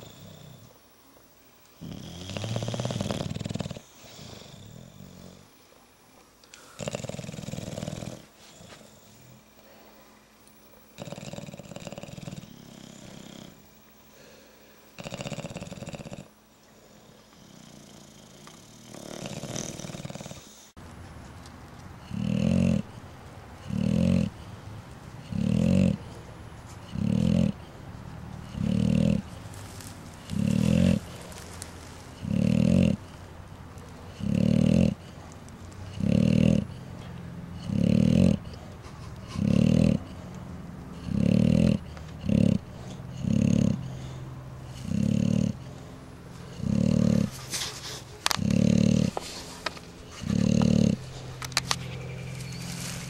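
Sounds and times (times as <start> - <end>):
bulldogs snoring: 0.0 - 0.8, 1.8 - 5.5, 6.6 - 9.7, 10.9 - 14.4, 15.0 - 20.7, 22.0 - 23.0, 23.6 - 24.6, 25.2 - 33.3, 34.1 - 40.3, 40.9 - 47.5, 48.2 - 52.5.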